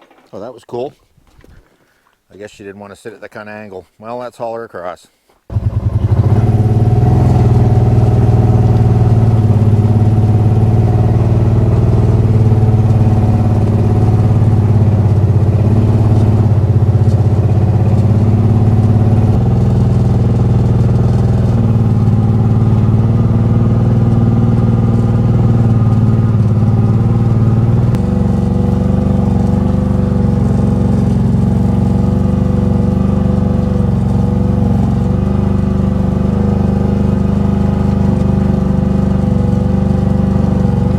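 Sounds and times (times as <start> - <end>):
vehicle engine running: 5.5 - 40.9.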